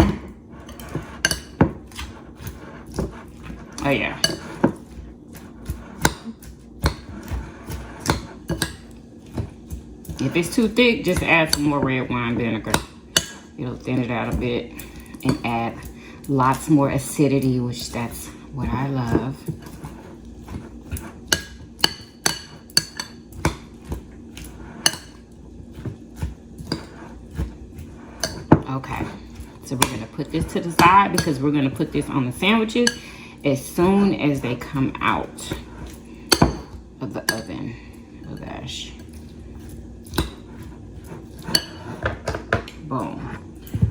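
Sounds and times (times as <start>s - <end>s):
utensil clinking against a bowl: 0.0s - 43.9s.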